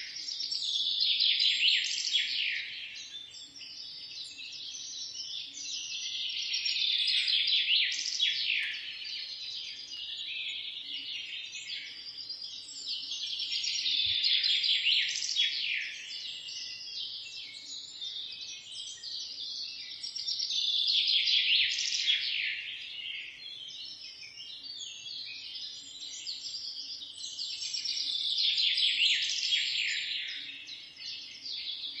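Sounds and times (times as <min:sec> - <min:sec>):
small birds chirping and twittering: 0:00.0 - 0:32.0.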